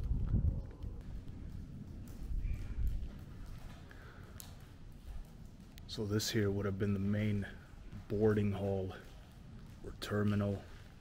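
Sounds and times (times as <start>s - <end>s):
footsteps on concrete: 0.0s - 11.0s.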